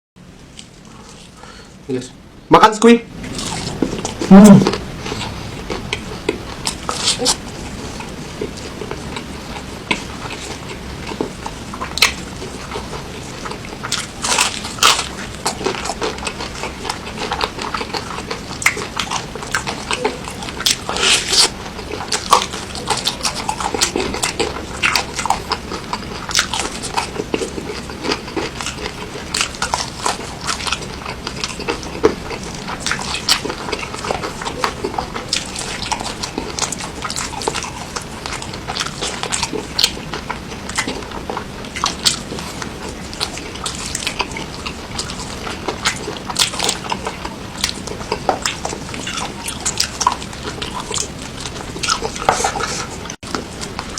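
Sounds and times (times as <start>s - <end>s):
person chewing and biting food: 0.4s - 1.8s, 3.1s - 53.9s.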